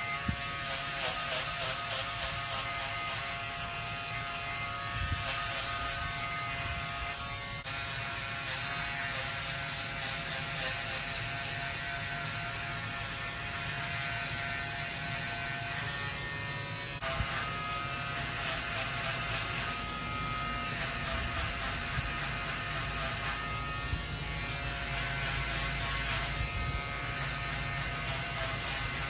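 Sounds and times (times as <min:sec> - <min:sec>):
electric hair clipper running: 0:00.0 - 0:29.0.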